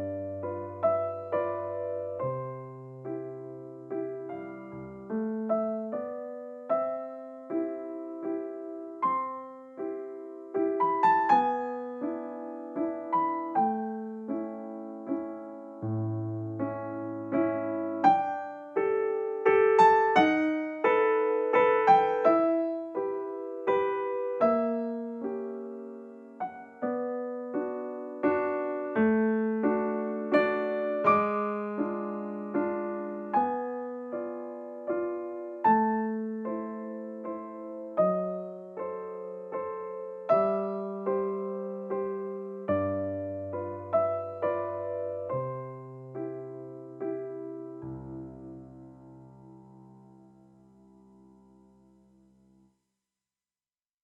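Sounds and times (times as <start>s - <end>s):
gentle piano music: 0.0s - 52.7s.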